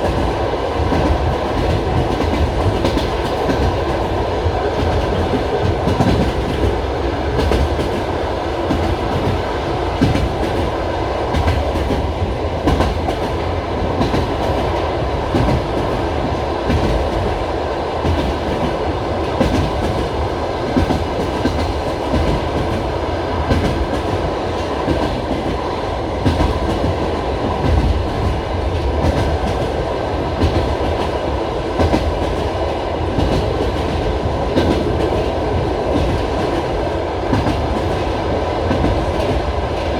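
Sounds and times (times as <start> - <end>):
railway carriage rumble: 0.0 - 39.9.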